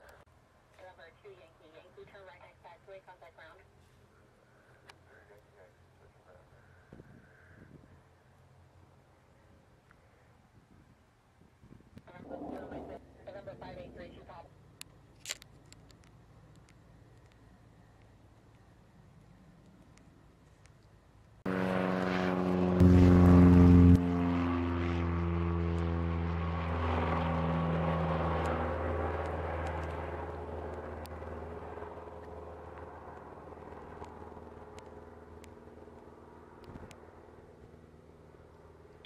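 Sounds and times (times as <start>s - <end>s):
propeller plane engine drone: 0.0s - 39.0s.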